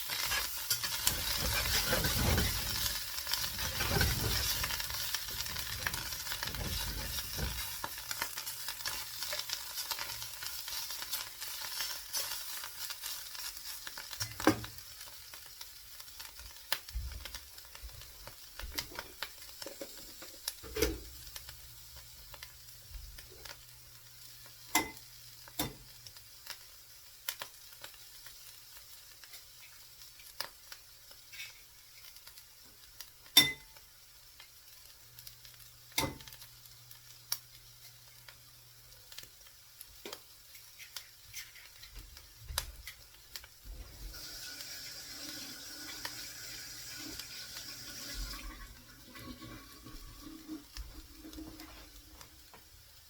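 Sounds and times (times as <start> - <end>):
omelette sizzling in a frying pan: 0.0 - 53.0.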